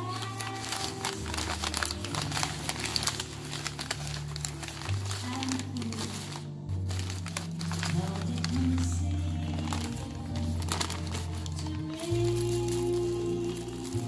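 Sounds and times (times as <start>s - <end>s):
background music with bass: 0.0s - 14.0s
paper wrapping crinkling: 0.0s - 14.0s.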